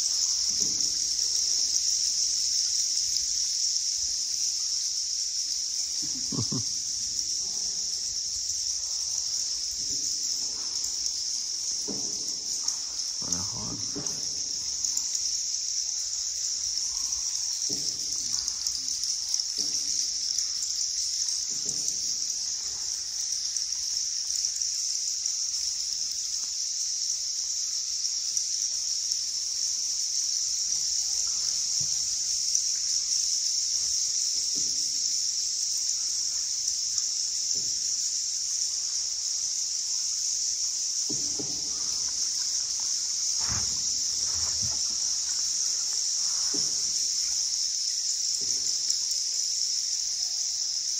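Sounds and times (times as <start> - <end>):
high-pitched hiss: 0.0 - 50.9.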